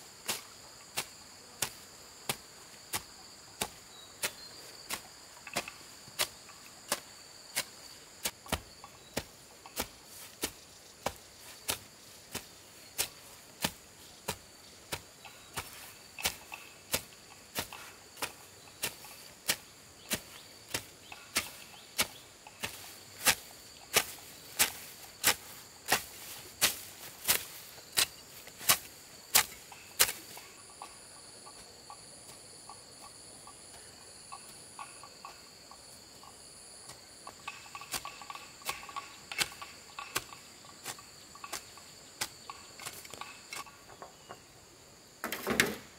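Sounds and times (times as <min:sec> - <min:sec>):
pulsing insect call: 0:00.0 - 0:45.1
high insect drone: 0:00.0 - 0:45.9.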